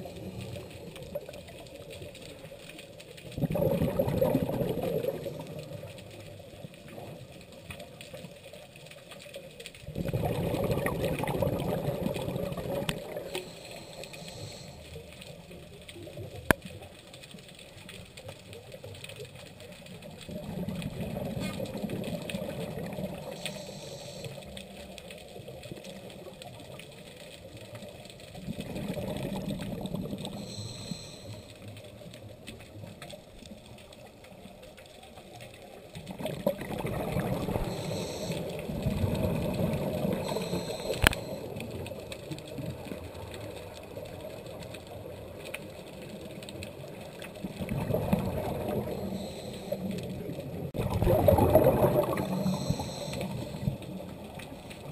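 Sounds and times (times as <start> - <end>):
exhaled bubbles rushing underwater: 0.0 - 8.3, 9.8 - 16.9, 18.1 - 31.1, 35.6 - 54.9.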